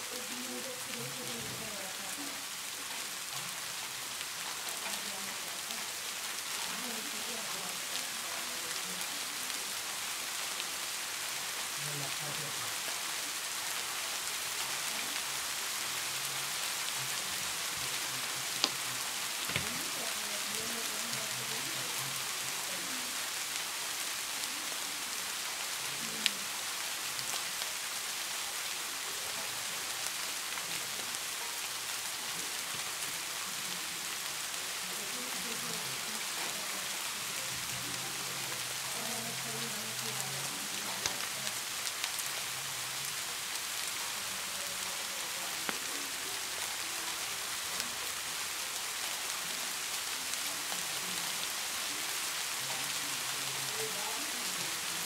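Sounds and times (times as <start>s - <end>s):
rain-like hiss: 0.0s - 55.0s.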